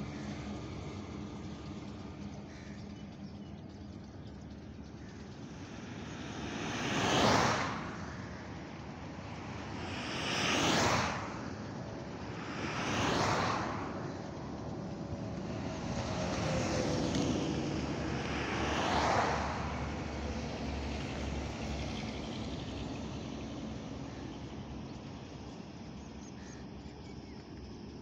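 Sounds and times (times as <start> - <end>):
vehicles passing on a highway: 0.0 - 28.0.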